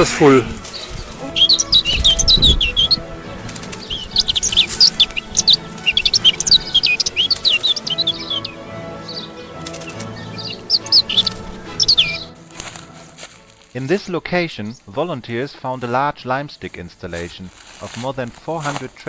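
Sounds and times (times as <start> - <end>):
low background music: 0.0 - 19.0
songbirds chirping: 0.0 - 19.0.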